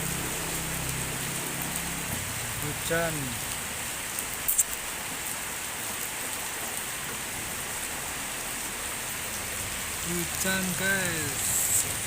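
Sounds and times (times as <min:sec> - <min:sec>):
drizzling rain hiss: 0:00.0 - 0:12.0.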